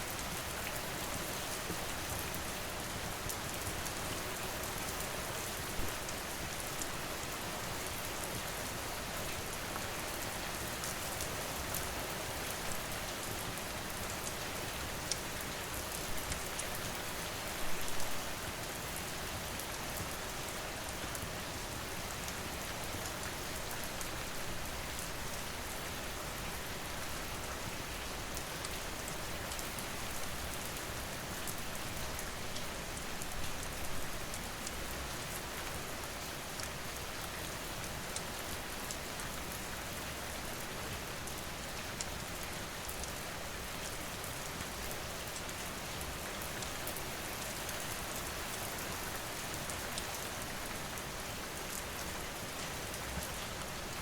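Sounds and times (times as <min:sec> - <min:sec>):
steady rain falling: 0:00.0 - 0:54.0
sharp ticks of raindrops: 0:00.1 - 0:54.0.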